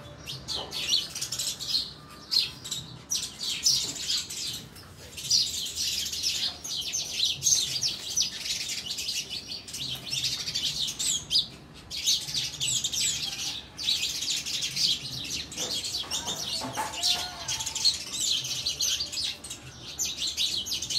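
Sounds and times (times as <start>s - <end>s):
sparrows chirping: 0.0s - 20.9s.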